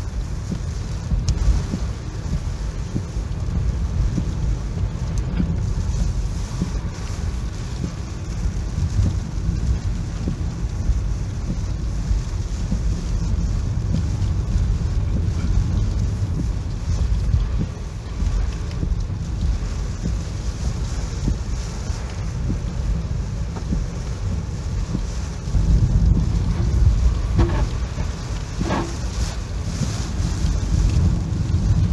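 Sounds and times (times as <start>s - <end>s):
strong wind buffeting microphone: 0.0s - 31.9s.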